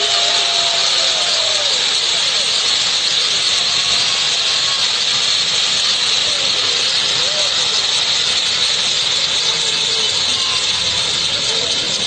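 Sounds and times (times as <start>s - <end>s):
firework fountains hissing: 0.0s - 12.0s.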